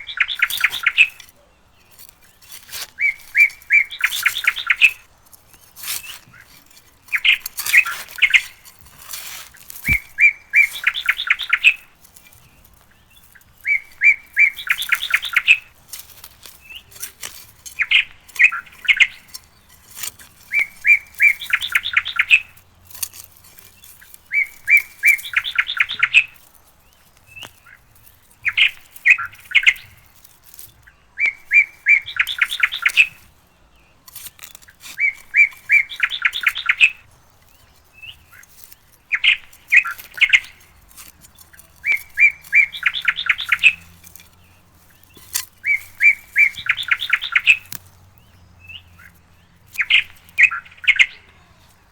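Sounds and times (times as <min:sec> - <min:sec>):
bird singing: 0:00.0 - 0:51.9.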